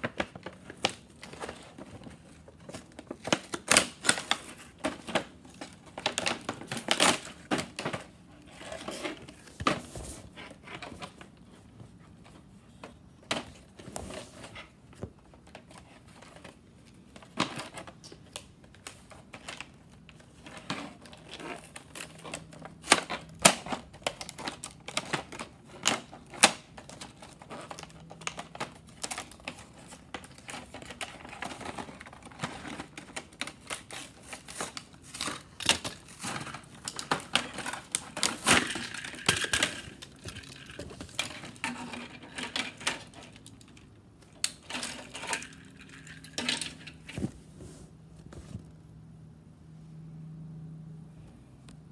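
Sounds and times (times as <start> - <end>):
cardboard and plastic packaging handled: 0.0 - 48.8.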